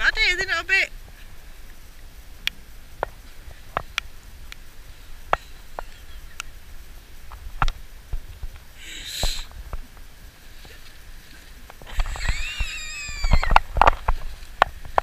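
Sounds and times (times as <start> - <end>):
leaves and clothing rustling: 0.0 - 15.0.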